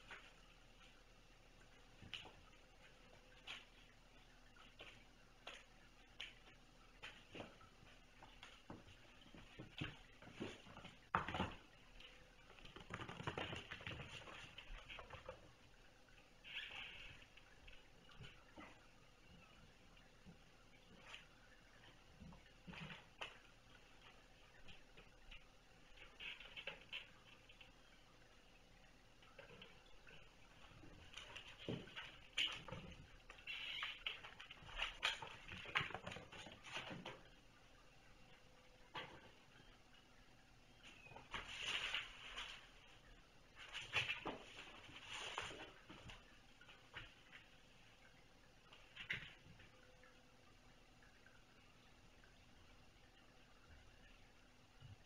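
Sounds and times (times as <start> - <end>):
kittens' paws pattering: 0.0 - 37.6, 40.7 - 49.8.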